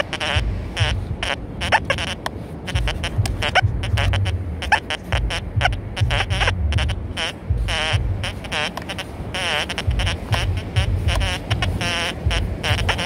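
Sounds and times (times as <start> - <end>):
low rumble: 0.0 - 13.0
metal detector warbling beeps: 0.0 - 13.0.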